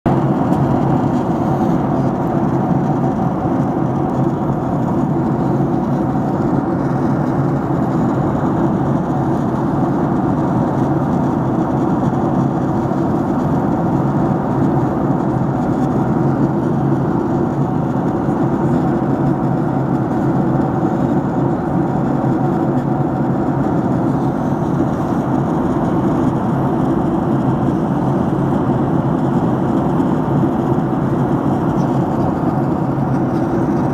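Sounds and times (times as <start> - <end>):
airliner cabin engine rush: 0.0 - 33.9.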